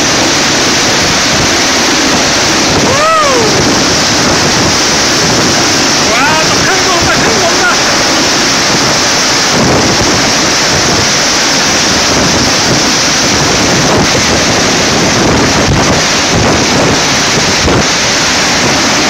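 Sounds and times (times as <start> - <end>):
heavy surf breaking: 0.0 - 19.0
wind buffeting microphone: 0.0 - 19.0.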